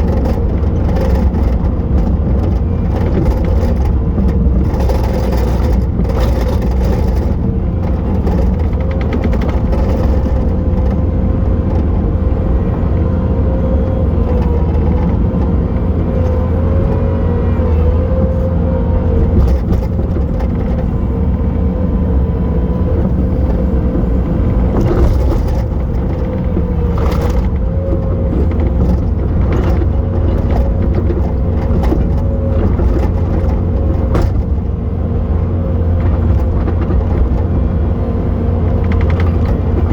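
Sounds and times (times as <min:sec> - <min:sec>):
skid steer diesel engine rumble: 0:00.0 - 0:39.9.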